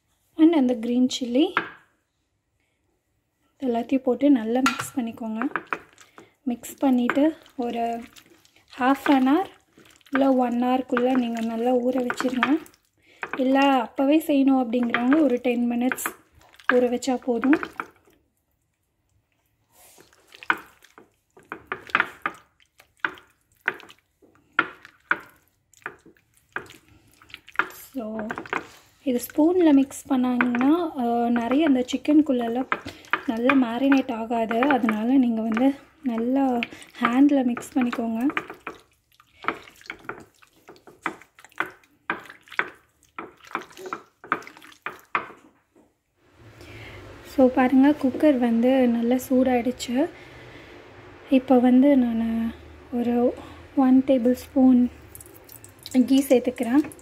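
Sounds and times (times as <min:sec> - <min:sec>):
wet squelches of marinade: 0:03.7 - 0:45.6, 0:46.2 - 0:57.0.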